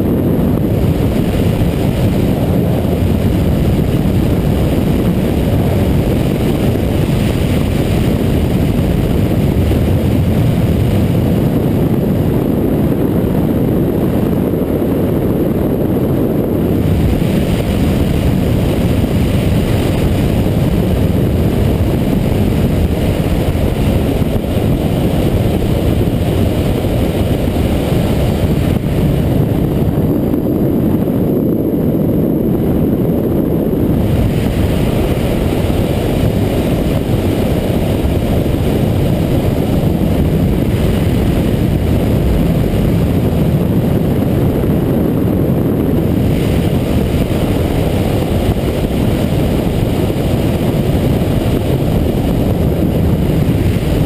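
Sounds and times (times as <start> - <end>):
motorcycle engine running: 0.0 - 54.0
wind rush and road noise: 0.0 - 54.0.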